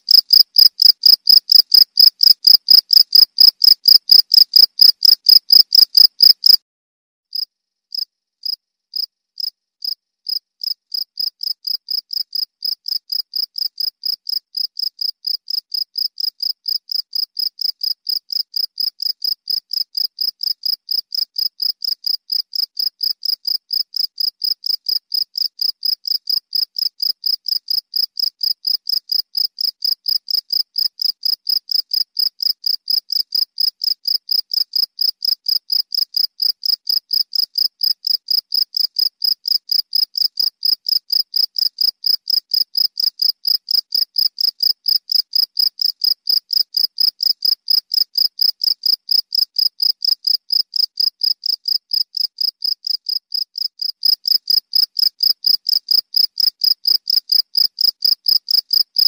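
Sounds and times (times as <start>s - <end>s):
cricket chirping: 0.1s - 6.6s, 7.4s - 59.0s.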